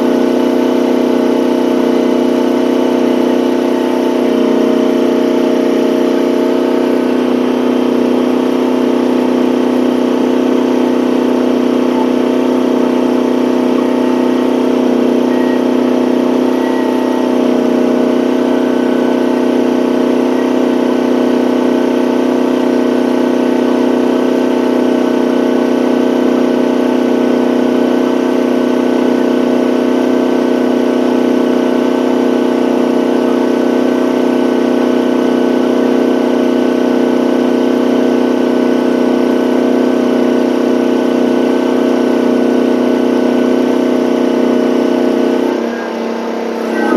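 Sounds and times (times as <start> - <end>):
excavator engine running: 0.0 - 46.9.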